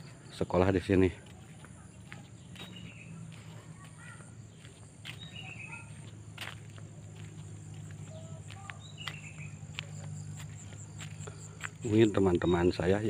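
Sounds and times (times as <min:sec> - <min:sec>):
bird chirps: 0:00.0 - 0:13.0
insects trilling: 0:00.0 - 0:13.0.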